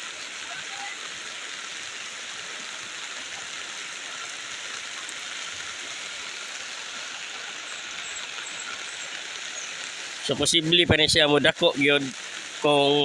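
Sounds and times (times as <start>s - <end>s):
floodwater roaring: 0.0s - 13.0s.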